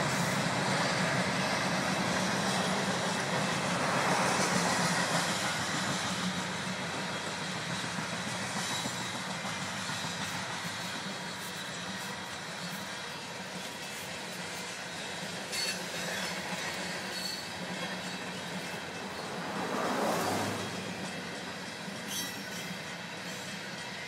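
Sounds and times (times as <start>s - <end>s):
freight train cars rolling on rails: 0.0s - 24.0s.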